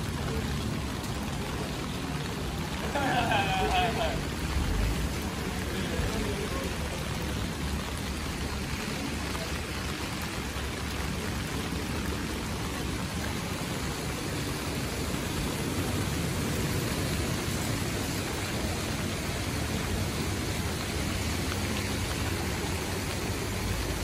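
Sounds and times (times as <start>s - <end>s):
water rushing hiss: 0.0s - 24.0s.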